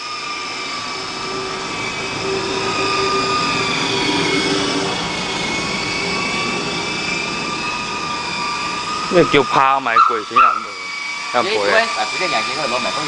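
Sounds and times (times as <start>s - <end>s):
radio-controlled helicopter whine: 0.0s - 13.0s.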